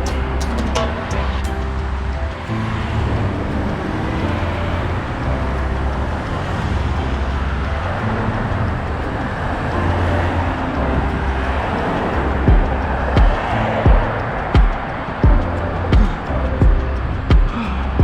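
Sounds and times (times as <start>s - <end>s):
cars passing with low rumble: 0.0s - 18.0s.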